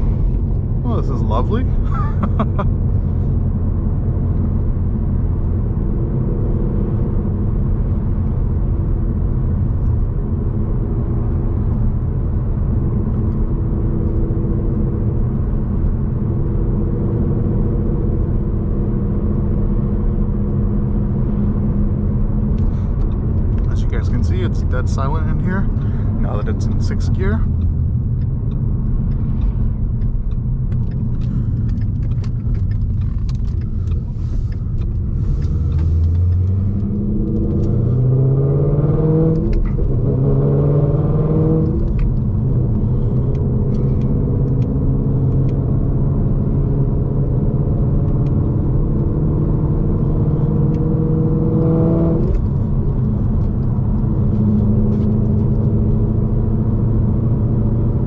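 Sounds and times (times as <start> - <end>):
car engine heard from inside cabin: 0.0 - 58.0.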